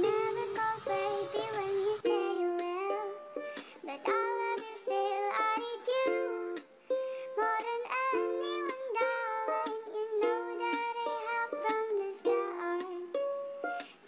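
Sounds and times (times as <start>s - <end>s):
ukulele song: 0.0s - 14.0s.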